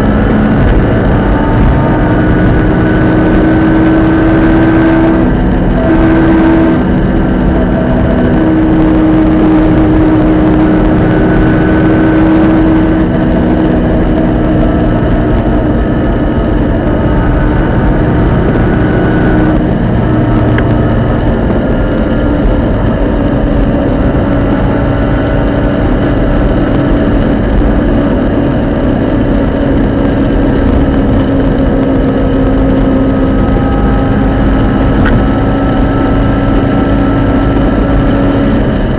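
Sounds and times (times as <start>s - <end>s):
car engine and drivetrain noise: 0.0s - 38.9s
steady whining tones: 0.0s - 38.9s.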